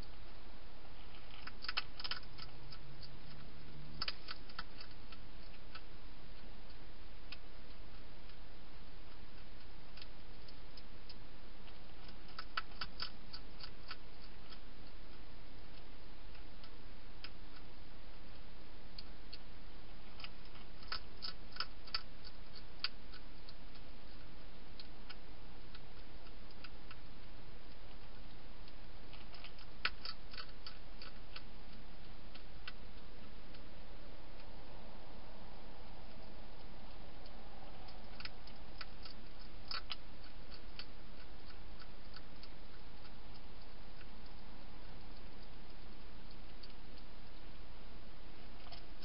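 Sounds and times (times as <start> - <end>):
hedgehog crunching dry food: 0.0 - 49.0
microphone hiss: 0.0 - 49.0.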